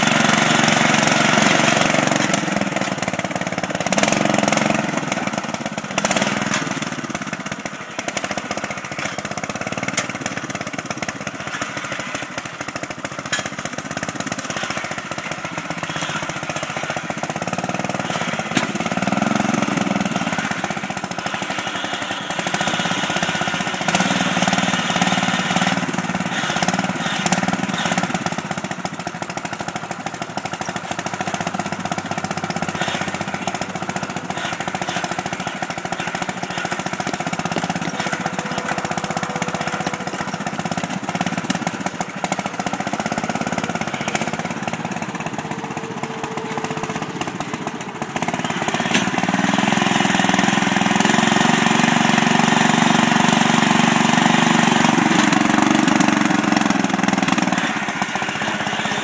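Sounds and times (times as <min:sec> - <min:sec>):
lawn mower engine running: 0:00.0 - 0:59.0
rapid rattling and knocking: 0:00.0 - 0:59.0.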